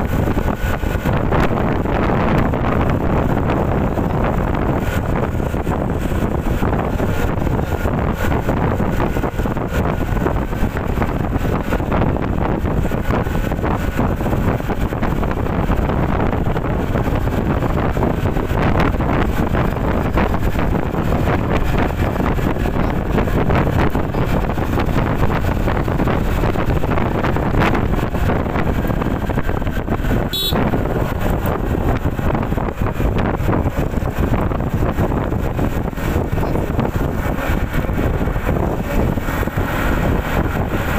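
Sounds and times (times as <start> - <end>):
motor scooter running: 0.0 - 40.9
wind rushing over microphone: 0.0 - 40.9.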